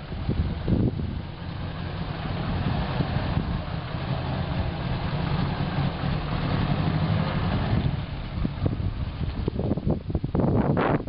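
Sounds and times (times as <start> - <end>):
vehicle engine at low revs: 0.0 - 11.0.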